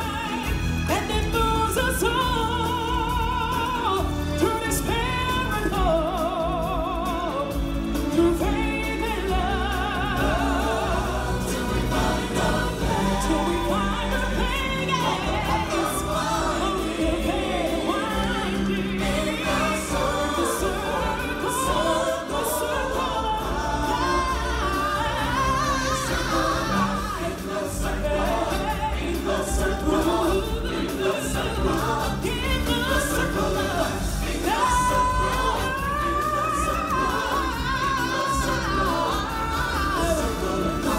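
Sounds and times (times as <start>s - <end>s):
singers with musical backing: 0.0s - 40.9s.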